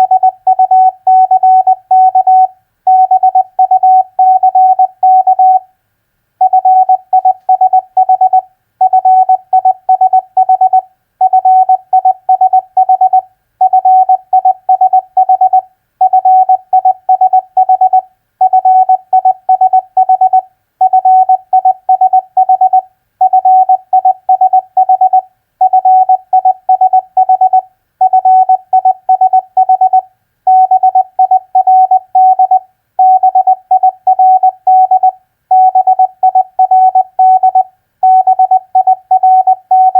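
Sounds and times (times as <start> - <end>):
morse code beeps: 0.0 - 5.6, 6.4 - 39.9.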